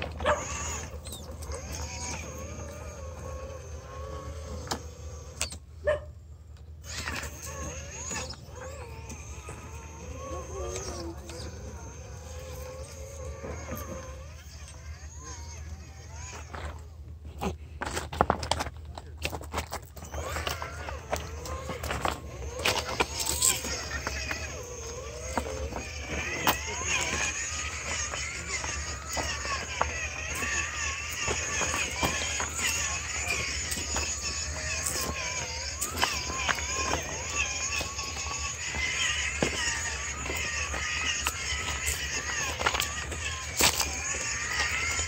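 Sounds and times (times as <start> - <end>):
electric motor and gears whining: 0.0 - 45.0.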